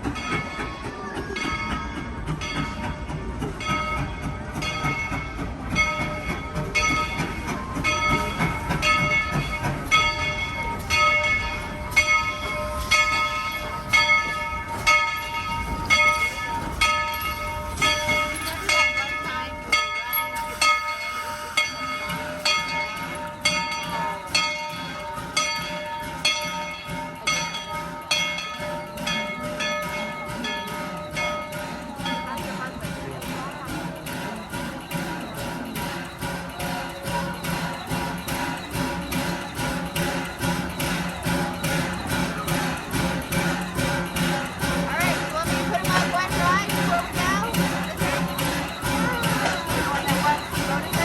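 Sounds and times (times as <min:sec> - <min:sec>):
locomotive bell clanging: 0:00.0 - 0:51.0
moving train rumble: 0:00.0 - 0:51.0.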